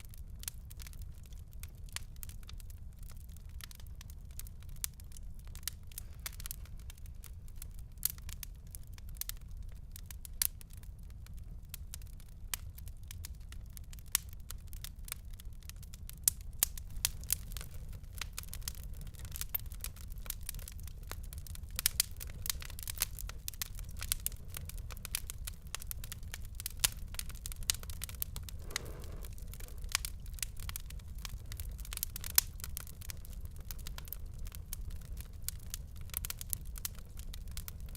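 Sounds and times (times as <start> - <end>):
fire crackling and popping: 0.0 - 37.9
low rumble of burning: 0.0 - 37.9.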